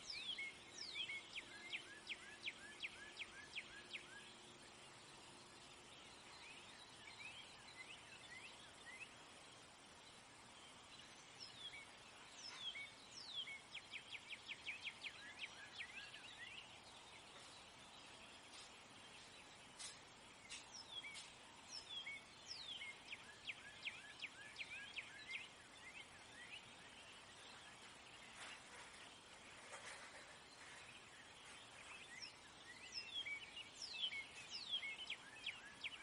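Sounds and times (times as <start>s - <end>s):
high falling bird chirps: 0.0s - 36.0s
light hiss: 0.0s - 36.0s.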